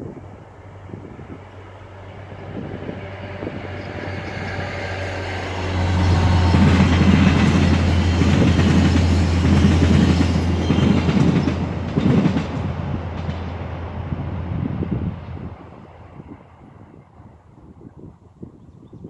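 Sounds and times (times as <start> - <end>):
wheel-on-rail noise: 0.0 - 16.9
diesel locomotive drone: 0.0 - 18.1.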